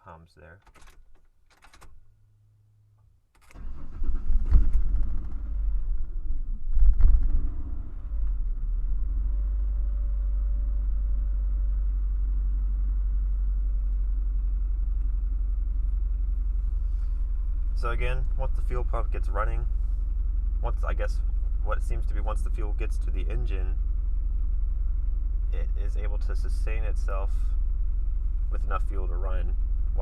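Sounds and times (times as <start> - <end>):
car engine cranking and idling: 3.4 - 30.0.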